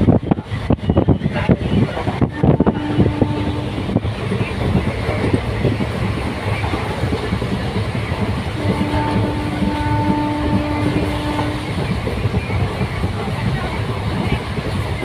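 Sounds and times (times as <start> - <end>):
train wheels rumbling and clattering: 0.0 - 15.0.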